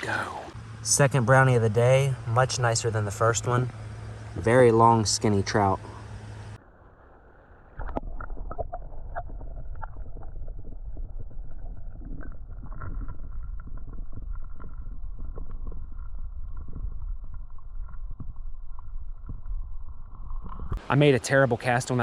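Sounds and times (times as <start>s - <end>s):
muffled creek water rumble: 0.0s - 22.0s.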